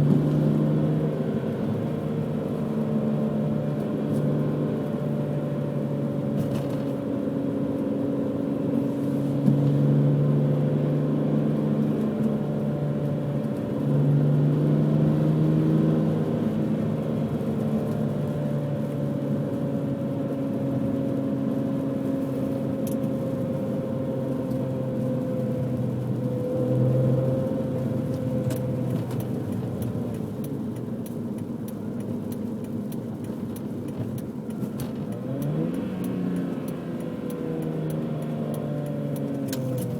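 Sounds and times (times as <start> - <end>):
car engine and exhaust driving: 0.0 - 39.9.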